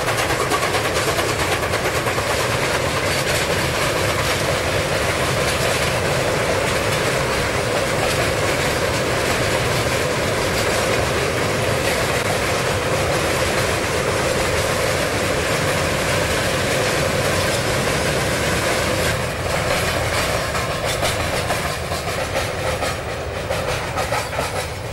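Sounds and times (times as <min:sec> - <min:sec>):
freight train wagons rolling: 0:00.0 - 0:24.9
train wheel clatter: 0:00.0 - 0:24.9.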